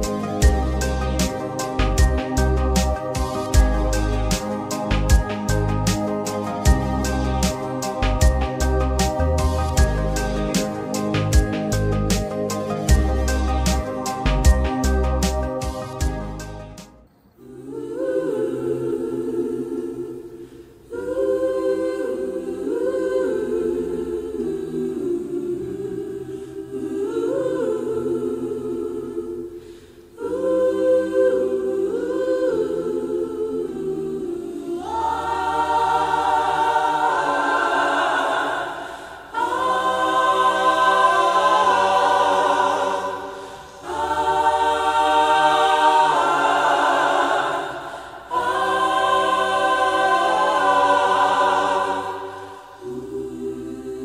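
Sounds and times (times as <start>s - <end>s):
choir singing sustained chords: 0.0s - 54.0s.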